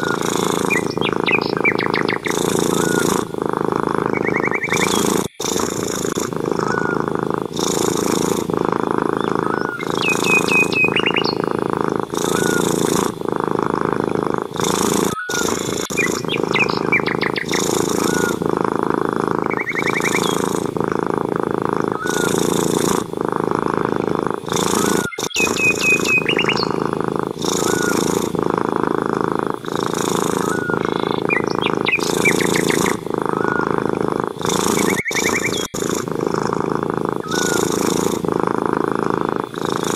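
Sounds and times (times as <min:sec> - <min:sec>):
birds chirping: 0:00.0 - 0:39.9
cat purring: 0:00.0 - 0:39.9.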